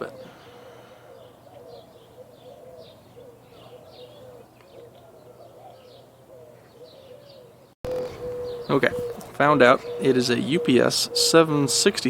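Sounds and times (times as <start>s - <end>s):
wavering repeated bird call: 0.0s - 12.0s.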